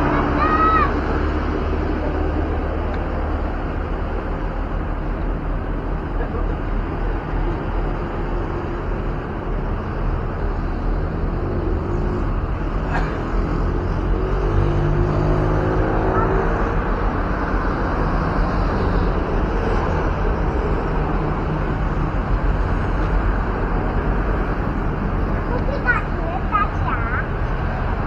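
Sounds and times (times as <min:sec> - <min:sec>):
heavy vehicle engine running: 0:00.0 - 0:28.0
roadside traffic noise: 0:00.0 - 0:28.0
vehicle engine accelerating: 0:00.0 - 0:28.0.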